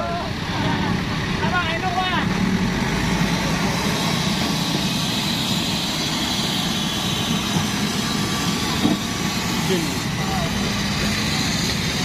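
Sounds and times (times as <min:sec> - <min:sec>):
vehicle engines idling: 0:00.0 - 0:12.0.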